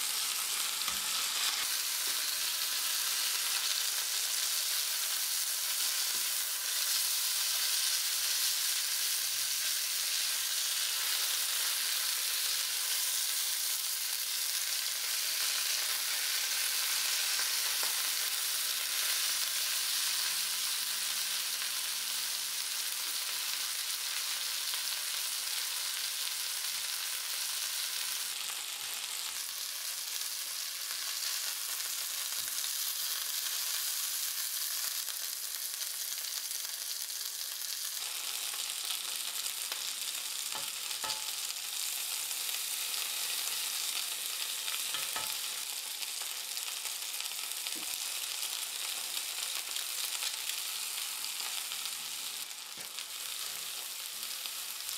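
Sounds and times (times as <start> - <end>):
chicken sizzling in a skillet: 0.0 - 54.9.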